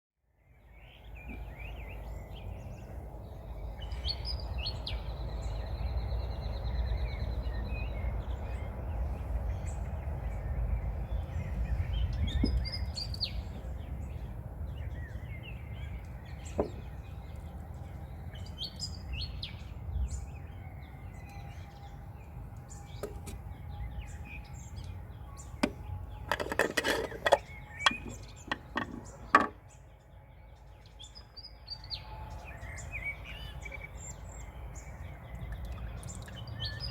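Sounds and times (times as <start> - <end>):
birds chirping and singing: 0.8 - 36.9.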